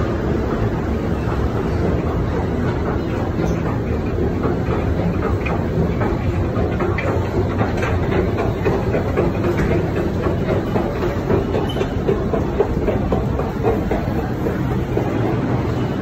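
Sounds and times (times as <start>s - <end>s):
subway train rumble: 0.0s - 16.0s
wheels rattling on track: 0.0s - 16.0s.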